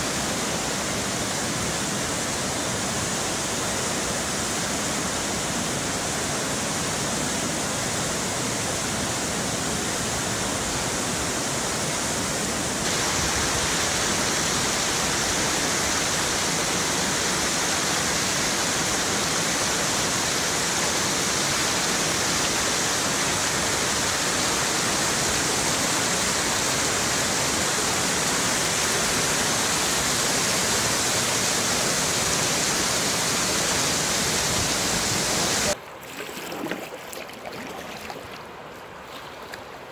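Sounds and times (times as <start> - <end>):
rapids rushing over rocks: 0.0 - 39.9.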